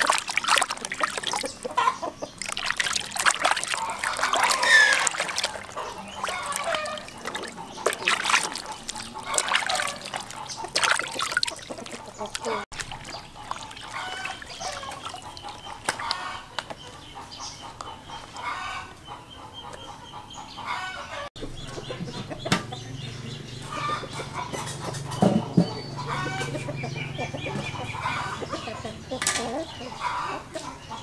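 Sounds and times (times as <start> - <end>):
water splashing: 0.0 - 17.4, 21.4 - 29.6
chickens clucking: 0.0 - 31.0.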